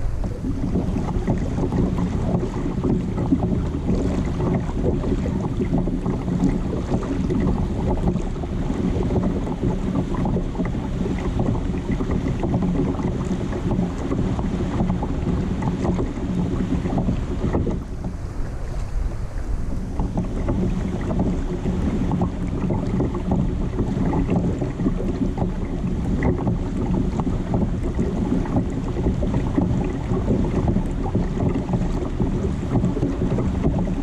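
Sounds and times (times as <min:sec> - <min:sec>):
water around a kayak: 0:00.0 - 0:34.0
wind buffeting microphone: 0:00.0 - 0:34.0.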